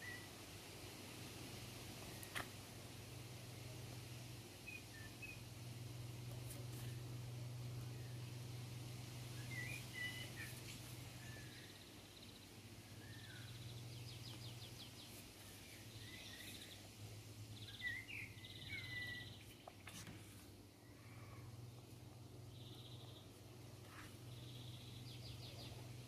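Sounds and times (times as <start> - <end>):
low steady hum: 0.0 - 26.0
small birds chirping and trilling: 4.6 - 26.0.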